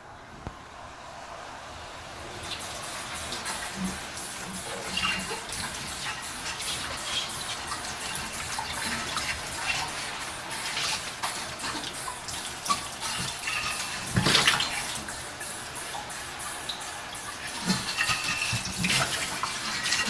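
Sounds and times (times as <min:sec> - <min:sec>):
running tap water: 0:01.9 - 0:20.0.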